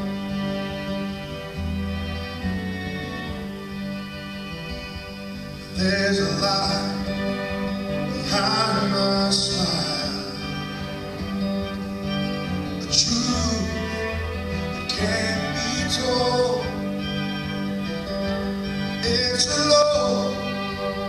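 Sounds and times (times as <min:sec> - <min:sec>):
acoustic guitar: 0:00.0 - 0:21.0
string ensemble: 0:00.0 - 0:21.0.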